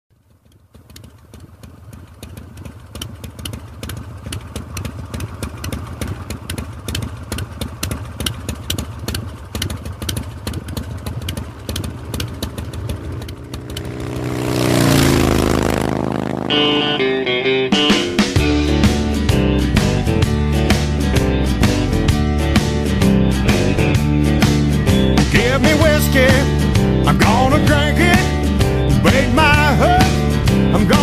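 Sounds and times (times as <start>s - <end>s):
motorcycle engine running roughly: 0.1s - 31.0s.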